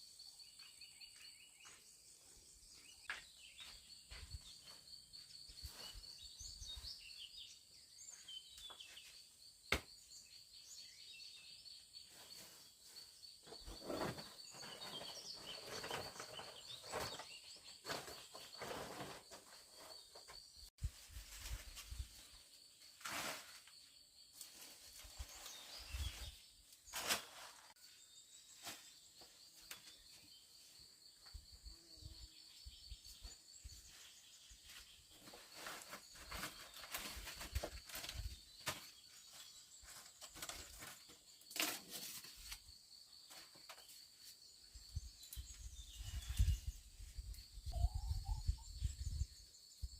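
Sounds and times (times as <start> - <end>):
insects trilling: 3.5 - 49.9.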